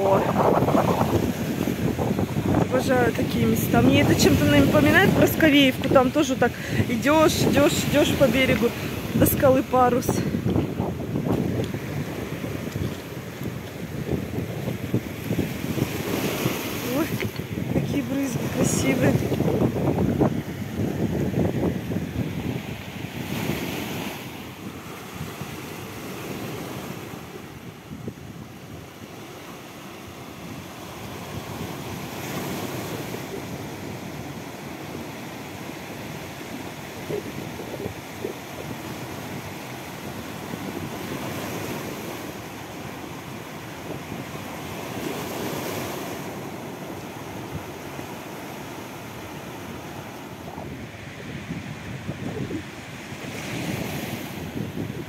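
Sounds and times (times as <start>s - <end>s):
wind buffeting microphone: 0.0s - 29.5s, 30.1s - 55.0s
waves breaking on pebbly shore: 0.0s - 55.0s.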